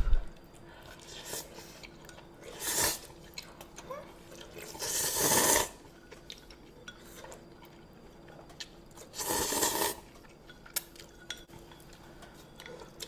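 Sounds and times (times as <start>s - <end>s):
close-miked eating sounds: 0.3s - 13.0s.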